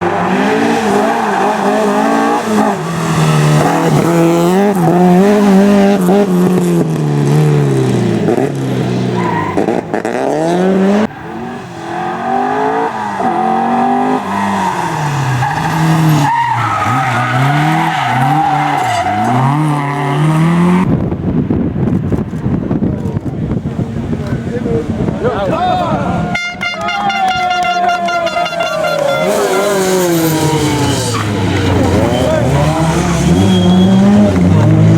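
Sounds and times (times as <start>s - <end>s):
rally car engine revving: 0.0s - 26.3s, 28.0s - 34.9s.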